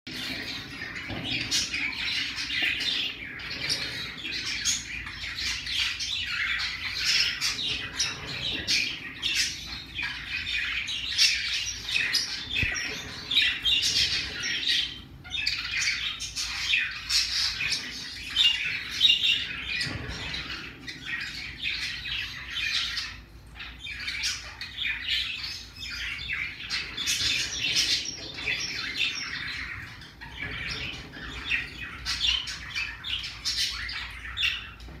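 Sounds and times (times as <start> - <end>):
parrotlets chirping: 0.1 - 35.0.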